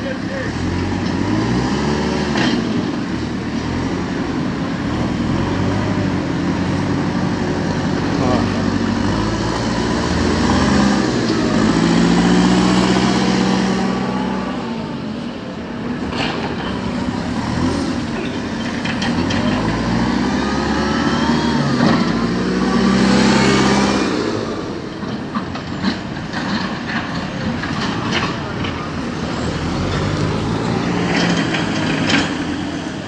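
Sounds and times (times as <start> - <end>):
diesel engine revving under load: 0.0 - 33.0.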